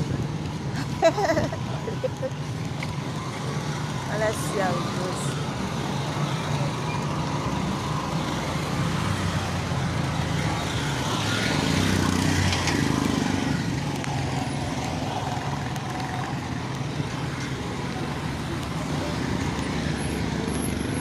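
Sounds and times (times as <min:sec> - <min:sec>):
vehicle engines: 0:00.0 - 0:21.0.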